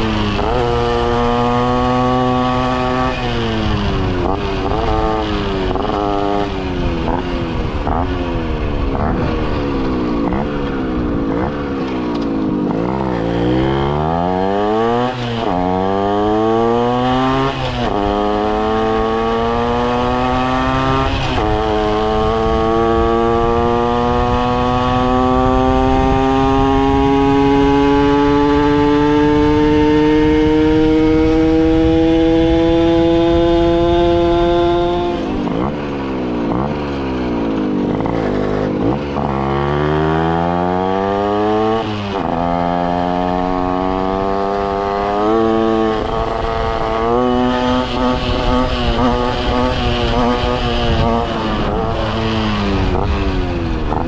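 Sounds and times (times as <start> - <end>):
moped engine revving: 0.0 - 54.0.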